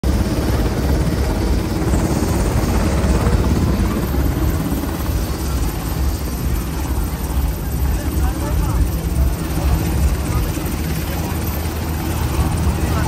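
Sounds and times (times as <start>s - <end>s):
helicopter engine rushing: 0.0s - 13.0s
helicopter rotor chopping: 0.0s - 13.0s.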